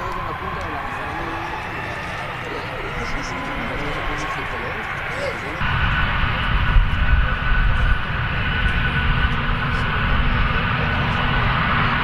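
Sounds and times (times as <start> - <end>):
high engine whine: 0.0 - 12.0
jet engines running: 0.0 - 12.0.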